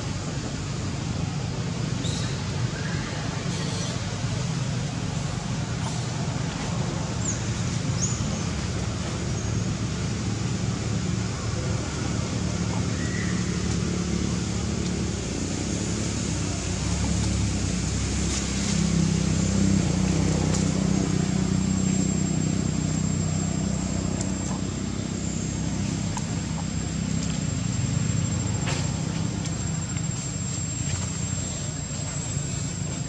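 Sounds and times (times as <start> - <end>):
low engine hum: 0.0 - 33.0
outdoor background noise: 0.0 - 33.0.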